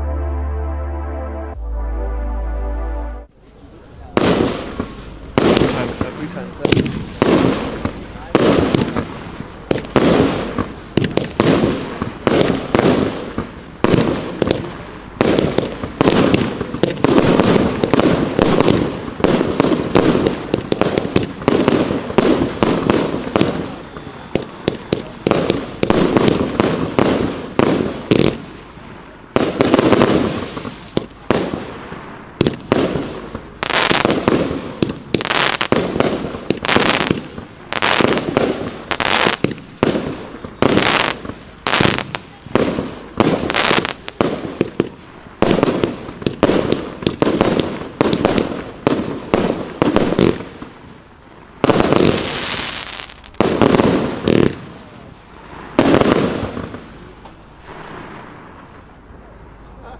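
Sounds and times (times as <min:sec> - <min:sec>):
firework aerial bursts: 0:01.0 - 0:58.8.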